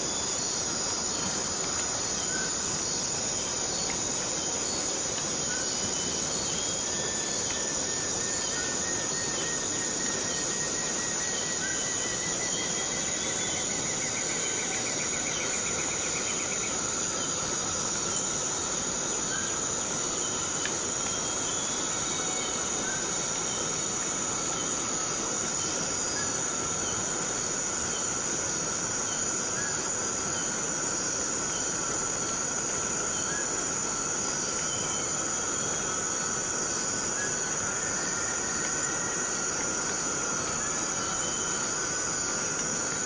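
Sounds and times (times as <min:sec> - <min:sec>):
high-pitched insect drone: 0:00.0 - 0:43.0
lower insect tone: 0:00.0 - 0:43.0
rain on foliage: 0:00.1 - 0:43.0.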